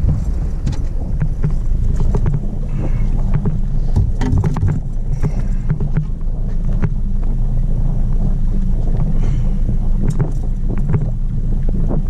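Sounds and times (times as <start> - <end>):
water noise: 0.0 - 12.0
wind rumble on microphone: 0.0 - 12.0.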